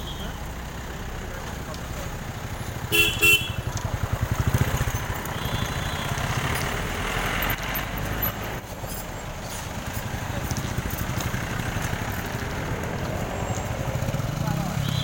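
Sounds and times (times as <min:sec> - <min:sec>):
road noise: 0:00.0 - 0:15.0
vehicle engine pulsing: 0:00.0 - 0:15.0.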